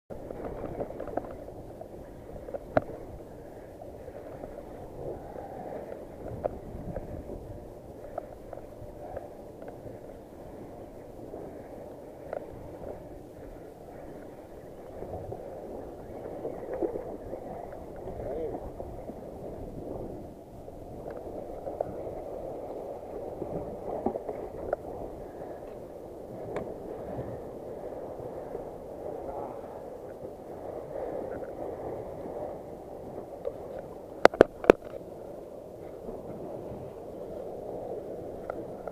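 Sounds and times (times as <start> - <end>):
sea washing against rocks: 0.1 - 38.9
wind on microphone: 0.1 - 38.9.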